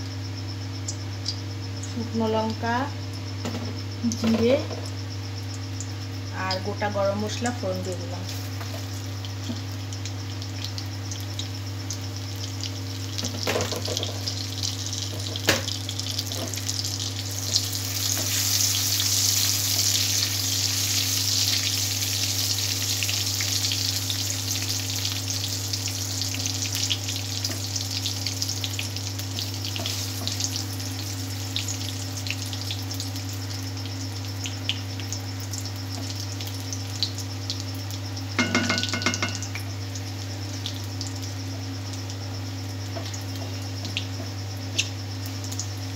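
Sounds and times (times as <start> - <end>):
spices sizzling in hot oil: 0.0 - 45.9.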